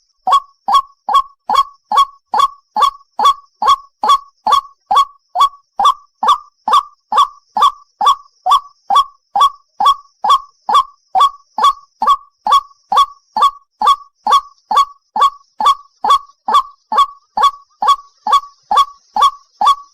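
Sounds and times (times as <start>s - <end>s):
waterhen calling: 0.0s - 19.9s.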